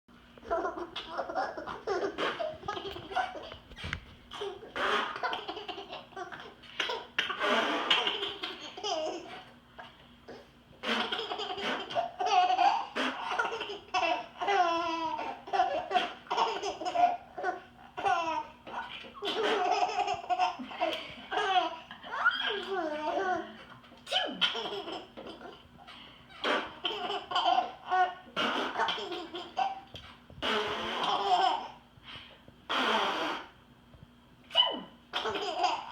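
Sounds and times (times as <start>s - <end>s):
baby laughing: 0.4s - 3.6s, 4.3s - 30.2s, 30.9s - 31.8s, 34.5s - 35.9s.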